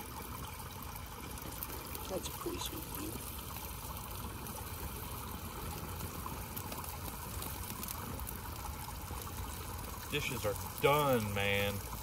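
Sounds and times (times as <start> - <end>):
fire flames rushing: 0.1 - 12.0.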